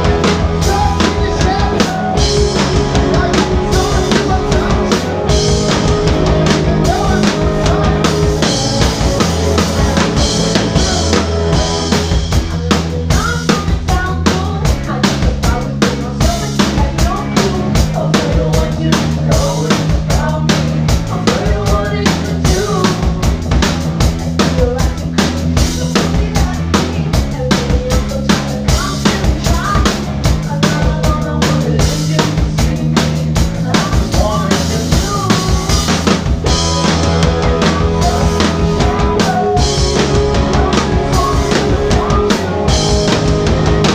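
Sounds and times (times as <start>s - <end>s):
drum kit beat: 0.0s - 43.9s
live band playing: 0.0s - 43.9s.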